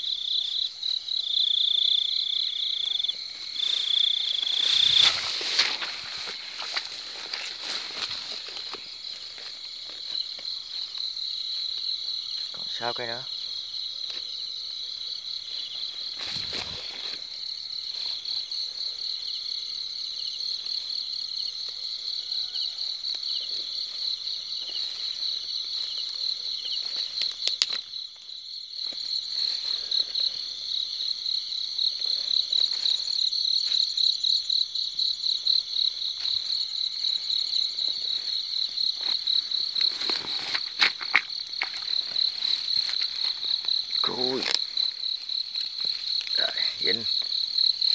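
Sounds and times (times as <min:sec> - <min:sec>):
grass rustling: 0:00.0 - 0:12.4, 0:13.4 - 0:19.3, 0:23.2 - 0:47.9
night insects trilling: 0:00.0 - 0:47.9.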